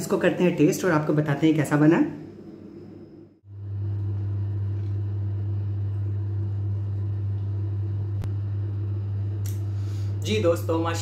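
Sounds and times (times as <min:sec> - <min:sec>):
steady low machine hum: 0:01.6 - 0:11.0.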